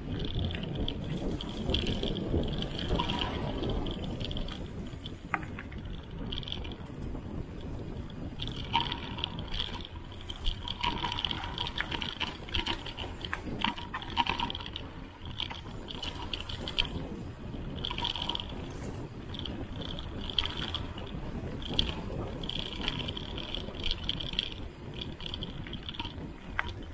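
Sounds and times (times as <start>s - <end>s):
bike rattling over bumps: 0.0s - 26.9s
bike tyres rumbling on dirt: 0.0s - 26.9s.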